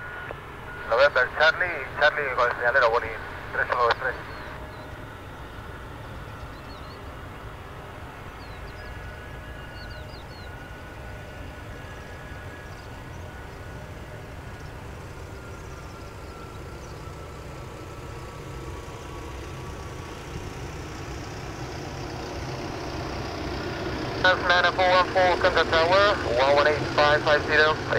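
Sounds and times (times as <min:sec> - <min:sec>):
distant jet engines rumbling: 0:00.0 - 0:27.9.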